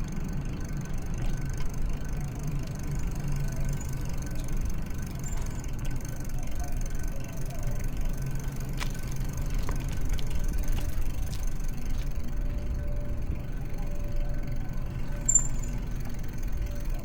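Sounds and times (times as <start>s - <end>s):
bicycle clicks: 0.0s - 17.0s
bicycle rolling: 0.0s - 17.0s.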